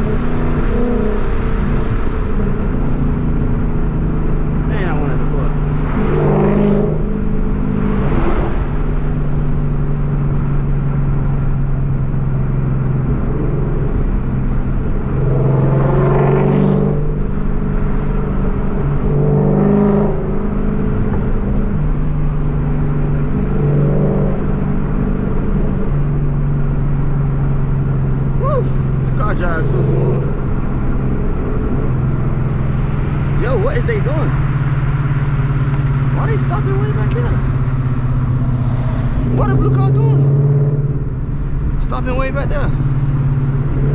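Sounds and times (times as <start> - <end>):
car engine and exhaust droning: 0.0 - 43.9.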